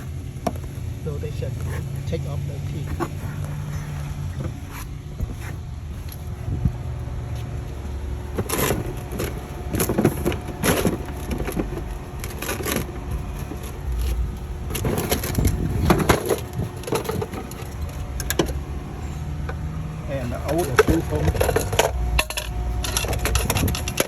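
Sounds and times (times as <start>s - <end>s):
plastic and metal parts knocking: 0.0s - 6.8s, 7.6s - 24.0s.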